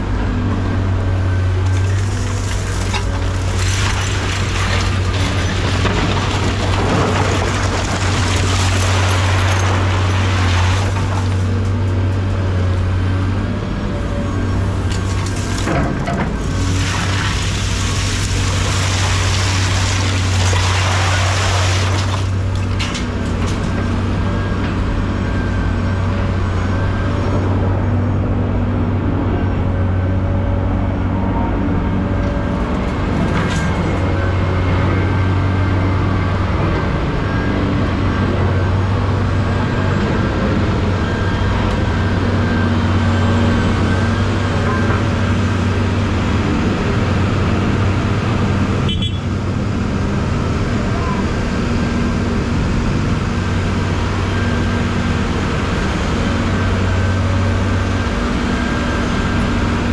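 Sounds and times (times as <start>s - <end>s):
heavy machinery engine droning: 0.0s - 59.9s.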